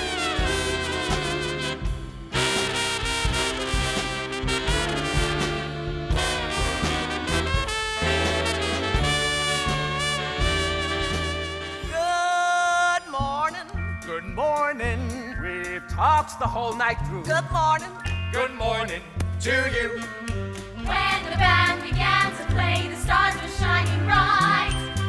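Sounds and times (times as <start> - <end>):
walking bass: 0.0 - 12.2, 13.2 - 25.0
swing music with brass: 0.0 - 25.0.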